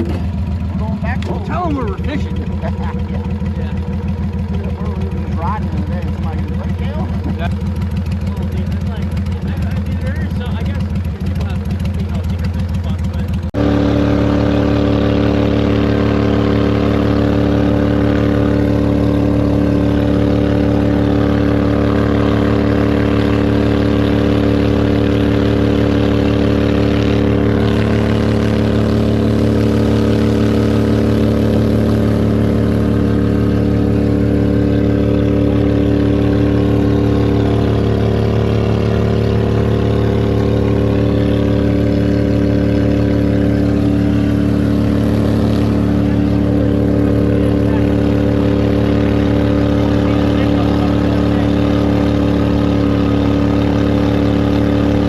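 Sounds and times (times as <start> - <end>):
boat motor droning: 0.0 - 55.0.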